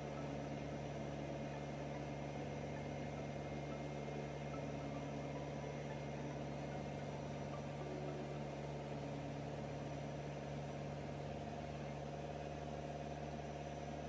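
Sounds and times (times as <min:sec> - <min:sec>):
combine harvester engine humming: 0:00.0 - 0:14.0.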